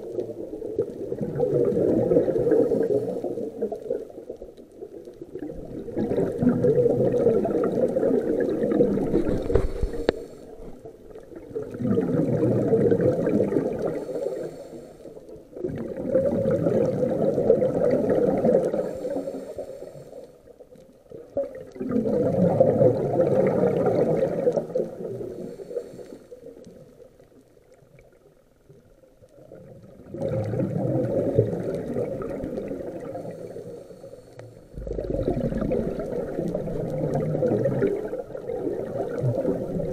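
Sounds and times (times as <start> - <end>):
underwater exhaust bubbles: 0.0 - 39.9.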